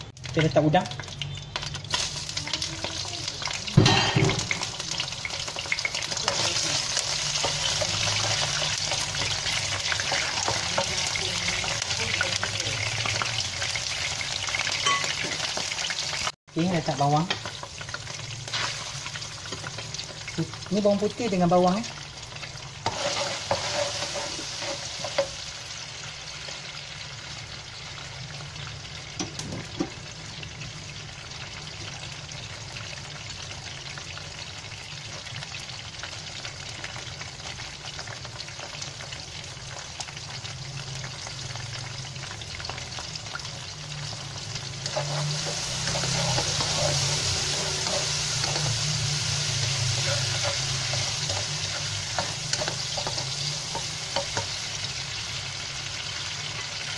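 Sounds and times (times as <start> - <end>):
prawns sizzling in hot oil: 0.0 - 56.9.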